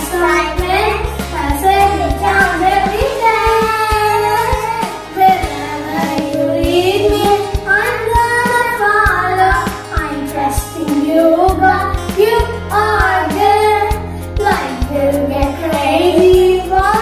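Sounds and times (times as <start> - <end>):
backing track with steady beat: 0.0 - 17.0
children singing: 0.0 - 17.0.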